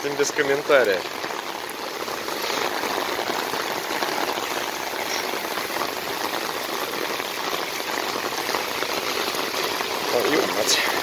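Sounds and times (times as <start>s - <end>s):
heavy rain on flooded road: 0.0s - 11.0s.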